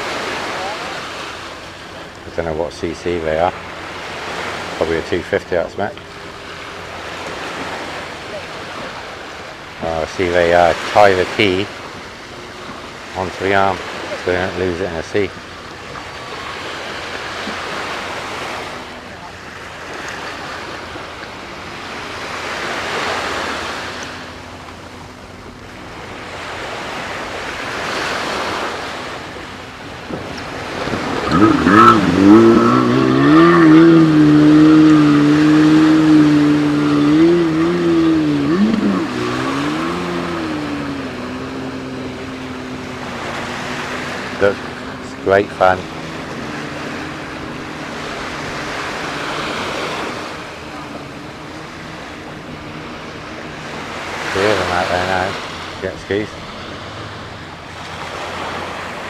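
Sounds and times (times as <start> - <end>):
jet ski engine revving: 0.0 - 59.0
waves breaking on shore: 0.0 - 59.0.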